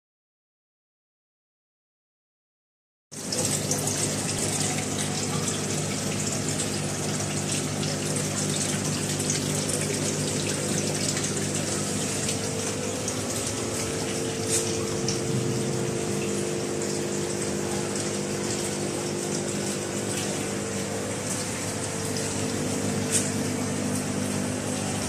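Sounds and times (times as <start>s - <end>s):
pump humming: 3.2s - 25.0s
water rushing and bubbling: 3.2s - 25.0s.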